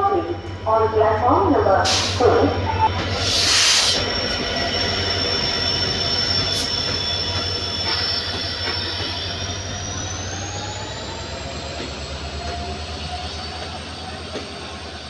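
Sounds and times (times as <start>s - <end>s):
locomotive rushing past: 0.0s - 15.0s
train wheel squeal: 1.9s - 15.0s.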